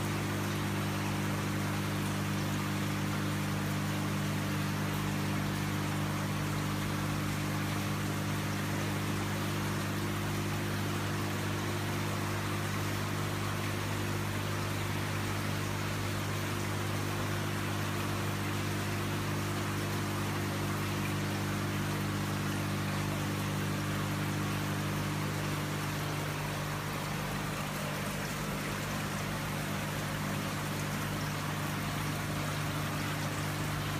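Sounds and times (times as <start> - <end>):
fountain water splashing: 0.0 - 33.9.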